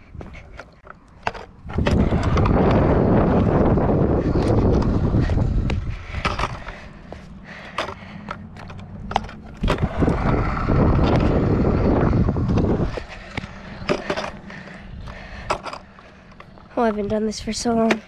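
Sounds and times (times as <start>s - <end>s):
scooter wheels rolling on concrete: 0.0s - 18.0s
scooter clicks and knocks: 0.2s - 6.8s, 7.6s - 18.0s.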